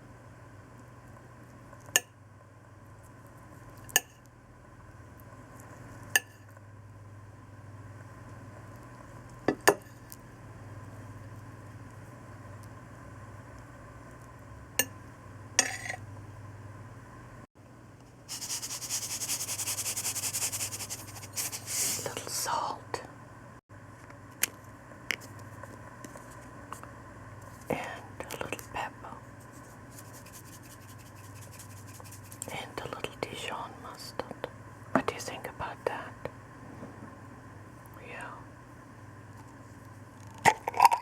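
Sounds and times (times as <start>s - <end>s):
faint hum: 0.0s - 41.0s.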